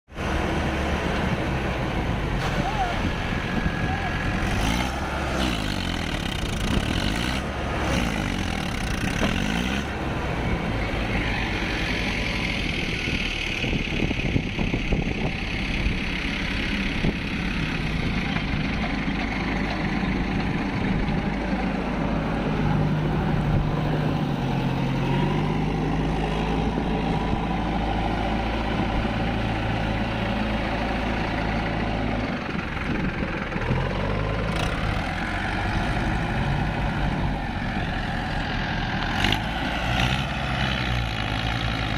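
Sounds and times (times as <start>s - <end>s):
diesel engine running: 0.1s - 41.9s.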